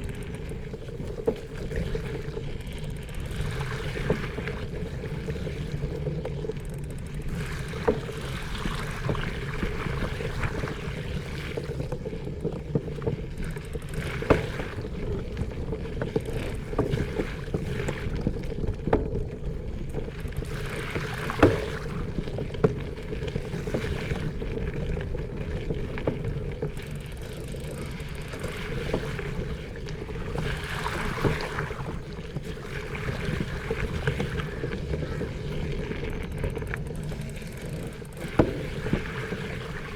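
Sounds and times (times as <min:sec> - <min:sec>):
bicycle rattling over bumps: 0:00.0 - 0:39.9
bicycle riding hum: 0:00.0 - 0:39.9.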